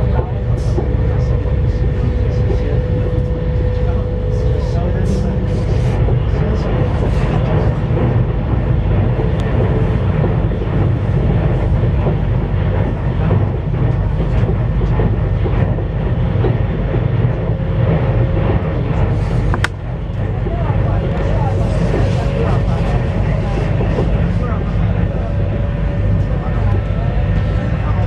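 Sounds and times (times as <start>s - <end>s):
faint steady whine: 0.0s - 28.0s
train interior low rumble: 0.0s - 28.0s.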